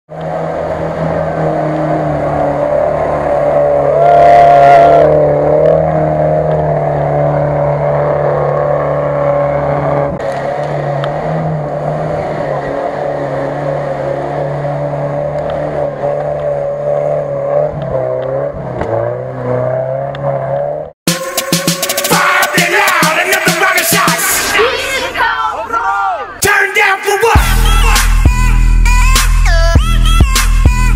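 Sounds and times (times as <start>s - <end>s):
off-road vehicle engine under load: 0.1s - 30.9s.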